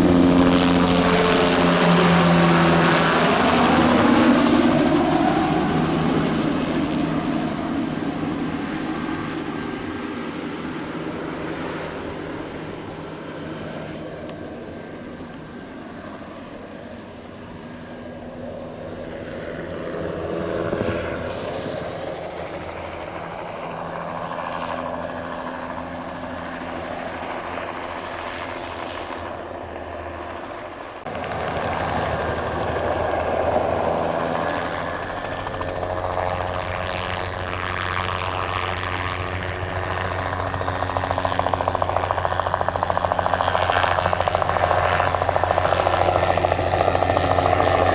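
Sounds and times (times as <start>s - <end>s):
helicopter flying: 0.0s - 47.9s.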